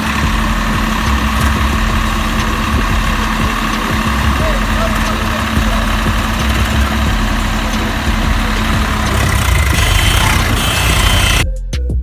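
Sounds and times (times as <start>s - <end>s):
tractor engine rumbling: 0.0s - 11.4s.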